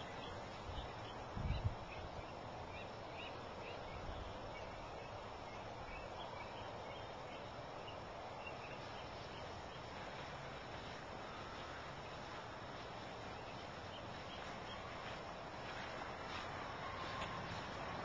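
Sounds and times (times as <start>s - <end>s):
small birds chirping: 0.0s - 18.0s
steady background hiss: 0.0s - 18.0s.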